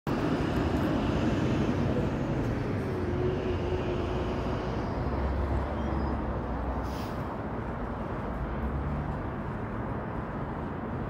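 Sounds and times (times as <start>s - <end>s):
faint engine hum: 0.1s - 11.0s
rumble of passing cars: 0.1s - 11.0s.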